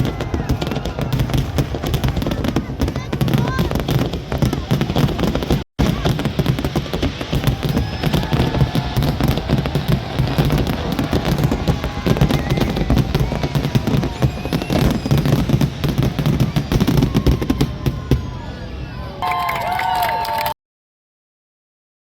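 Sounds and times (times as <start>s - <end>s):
fireworks bangs and crackles: 0.0s - 18.9s.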